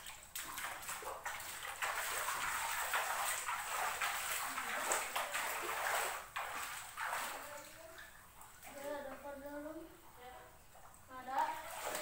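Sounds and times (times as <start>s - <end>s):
footsteps splashing through water: 0.0s - 9.1s, 10.9s - 12.0s.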